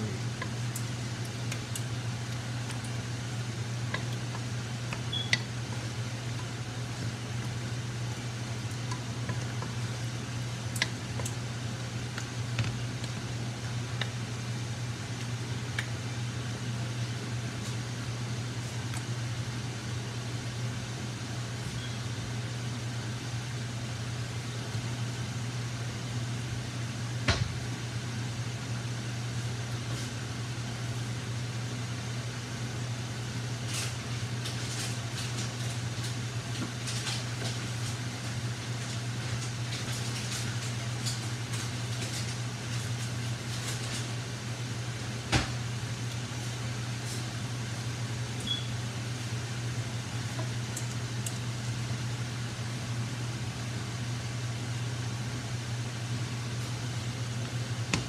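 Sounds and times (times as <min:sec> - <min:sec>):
range hood fan hum: 0:00.0 - 0:58.0.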